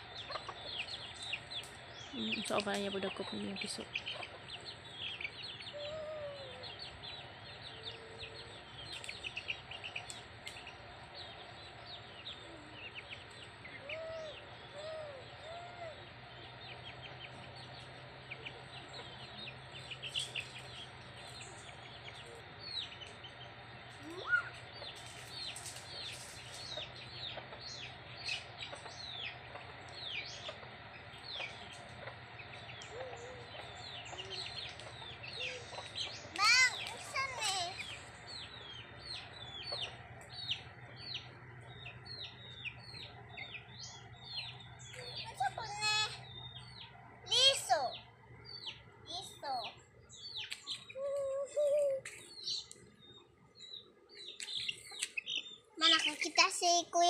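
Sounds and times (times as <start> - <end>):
hen clucking: 0.0 - 25.1, 25.9 - 49.7
chicks peeping: 0.0 - 57.0.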